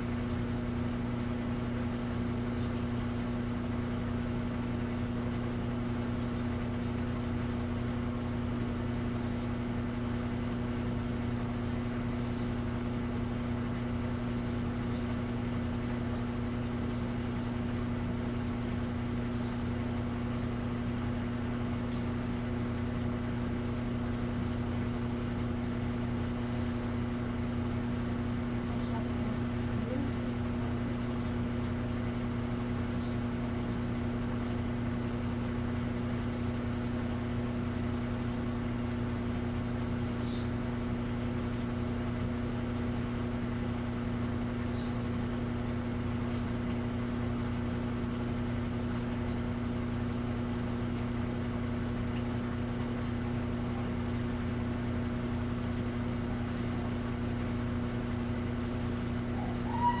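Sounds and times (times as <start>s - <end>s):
washing machine humming: 0.0s - 60.0s.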